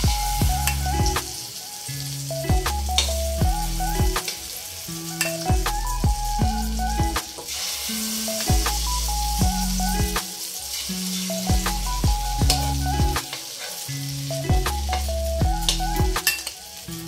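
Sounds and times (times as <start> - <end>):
background music: 0.0 - 17.0
hot oil sizzling in a wok: 0.0 - 17.0.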